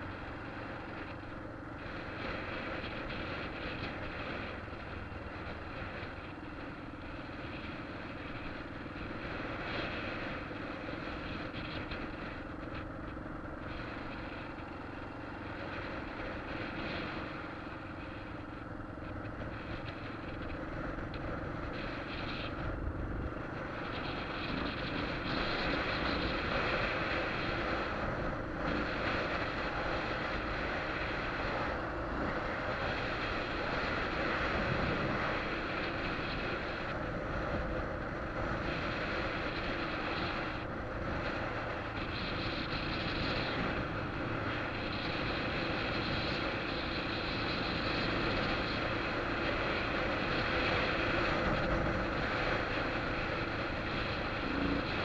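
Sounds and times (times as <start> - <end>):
motorcycle engine hum: 0.0 - 55.0
wind and road noise: 0.0 - 55.0.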